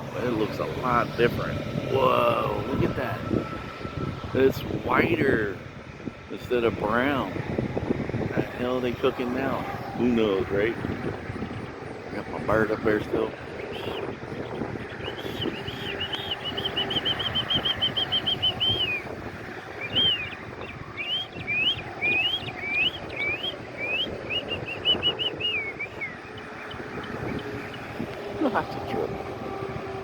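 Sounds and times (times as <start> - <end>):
songbird singing: 0.0 - 30.0.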